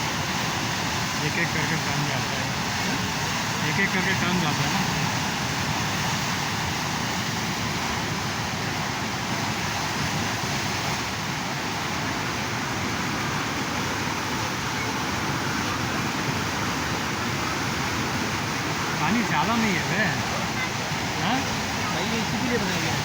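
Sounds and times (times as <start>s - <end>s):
fast-flowing river water: 0.0s - 23.0s.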